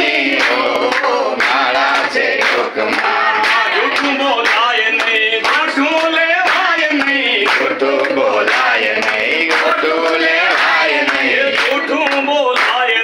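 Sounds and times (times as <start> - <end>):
group singing: 0.0 - 13.0
hands clapping in time: 0.0 - 13.0.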